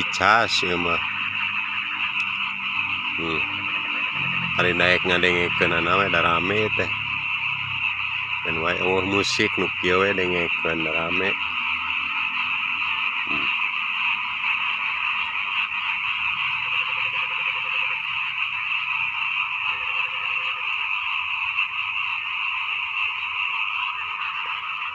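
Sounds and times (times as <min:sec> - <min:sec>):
chorus of frogs calling: 0:00.0 - 0:24.9
low rapidly pulsed croak: 0:00.0 - 0:24.9.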